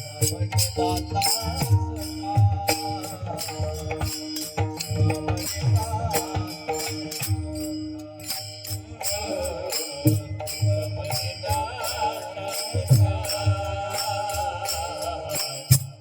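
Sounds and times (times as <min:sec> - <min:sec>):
drum beats: 0:00.0 - 0:16.0
jingling percussion: 0:00.0 - 0:16.0
person singing: 0:00.0 - 0:16.0.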